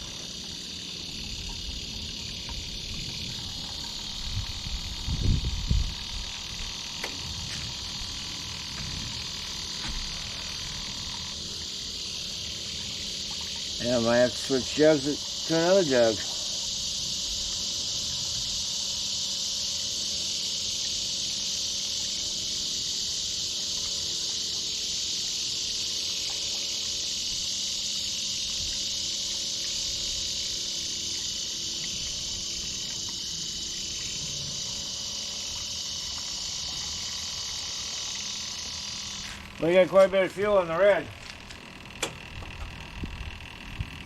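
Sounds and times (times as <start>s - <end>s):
fuel draining hiss: 0.0s - 44.0s.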